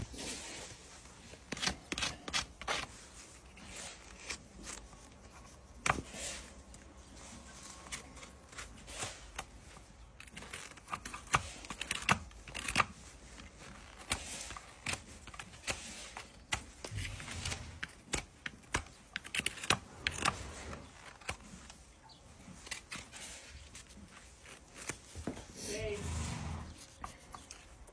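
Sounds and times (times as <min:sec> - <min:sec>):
tools snipping and scraping hoof: 0:00.0 - 0:27.9.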